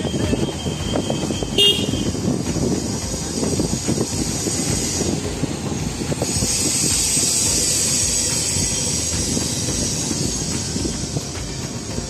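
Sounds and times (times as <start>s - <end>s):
motorbike rumble: 0.0s - 12.0s
wind rushing over microphone: 0.0s - 12.0s.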